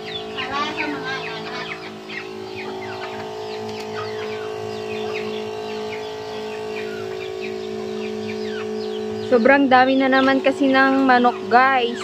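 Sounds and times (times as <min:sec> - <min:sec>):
chickens clucking: 0:00.0 - 0:12.0
steady hum: 0:00.0 - 0:12.0.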